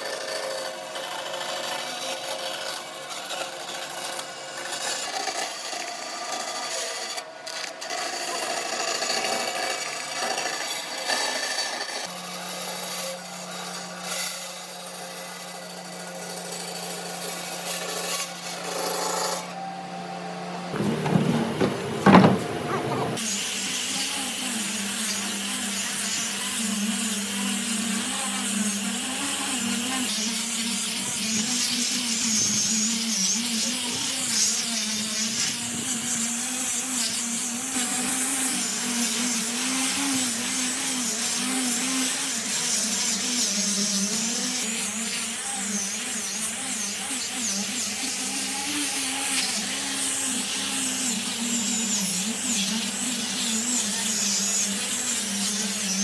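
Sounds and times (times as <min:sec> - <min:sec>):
woodworking power tool running: 0:00.0 - 0:56.0.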